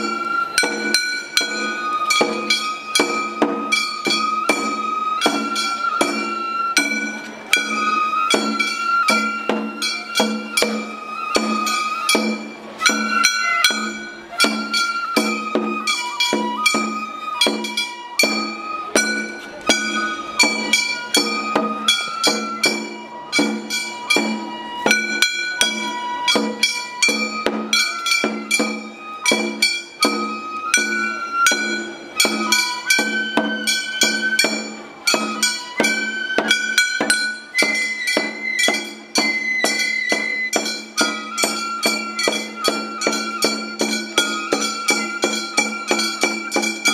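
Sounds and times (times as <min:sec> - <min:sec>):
bamboo flute melody: 0:00.0 - 0:46.9
drum beats: 0:00.0 - 0:46.9.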